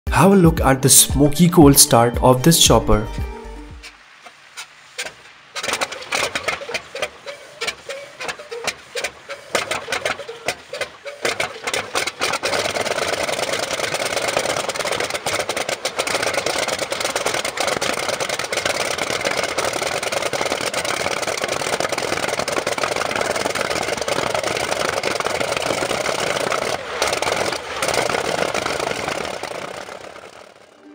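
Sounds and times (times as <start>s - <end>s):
helicopter engine starting: 0.1s - 30.9s.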